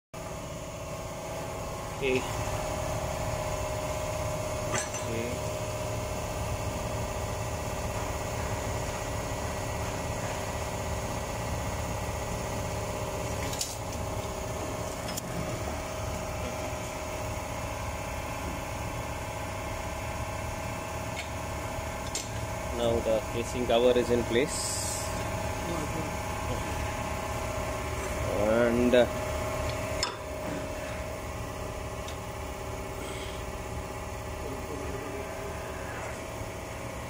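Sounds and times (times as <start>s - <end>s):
engine-room machinery drone: 0.2s - 37.0s.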